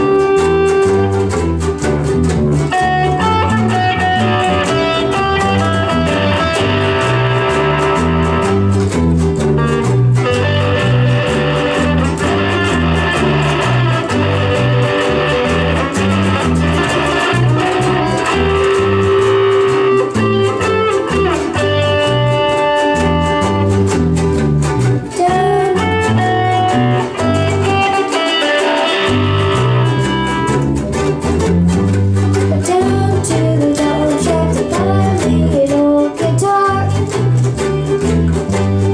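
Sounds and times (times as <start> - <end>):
guitars playing blues: 0.0 - 38.9.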